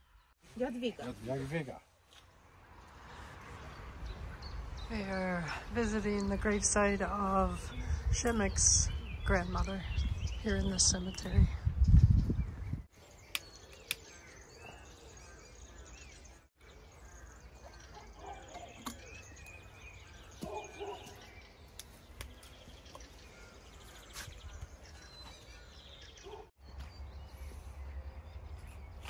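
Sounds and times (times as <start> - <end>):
birds chirping and singing: 3.6 - 29.0.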